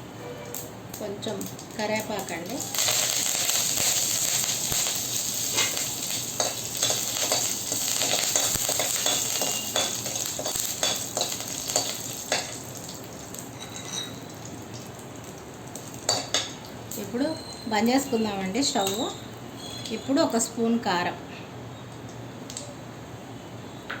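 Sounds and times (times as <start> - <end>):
seeds sizzling and popping in oil: 0.5 - 20.8.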